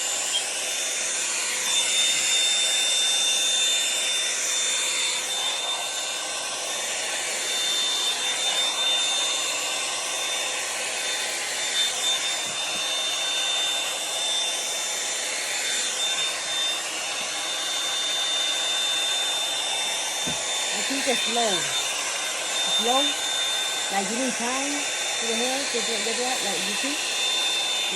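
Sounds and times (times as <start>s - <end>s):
hot-air brush running: 0.0s - 27.9s.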